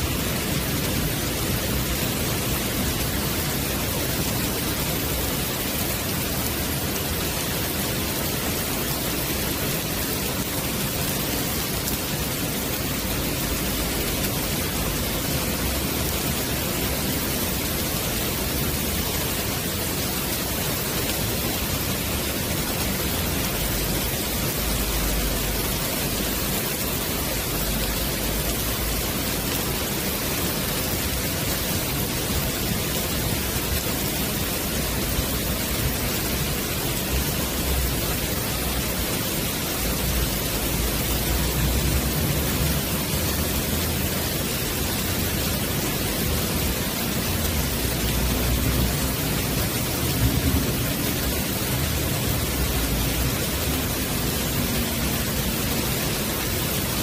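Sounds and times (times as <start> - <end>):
heavy rain on wooden deck: 0.0 - 57.0.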